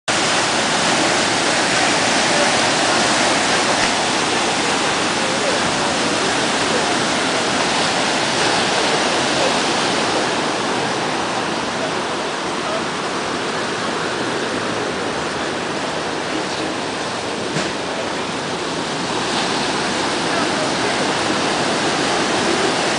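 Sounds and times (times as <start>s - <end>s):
sea surf breaking on beach: 0.1s - 22.9s.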